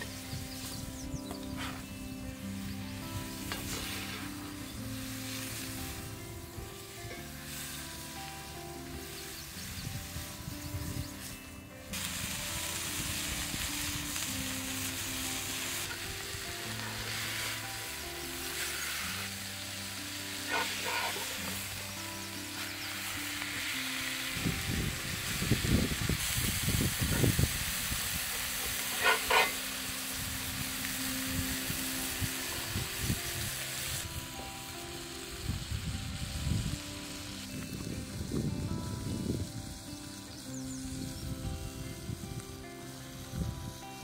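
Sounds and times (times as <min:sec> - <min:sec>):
background music: 0:00.0 - 0:44.0
patties sizzling in a skillet: 0:02.4 - 0:41.2.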